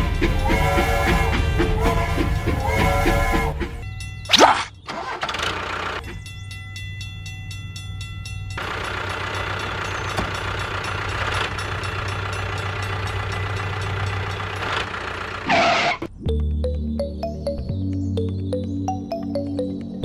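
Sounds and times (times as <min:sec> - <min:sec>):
tractor engine running: 0:00.0 - 0:16.5.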